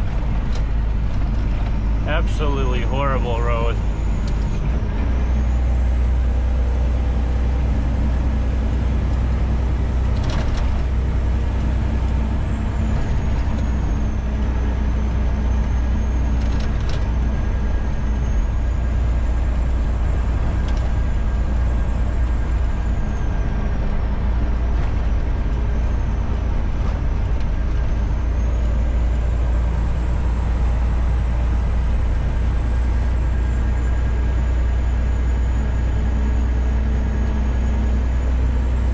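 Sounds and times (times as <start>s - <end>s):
road noise inside cab: 0.0s - 38.9s
truck diesel engine running: 0.0s - 38.9s.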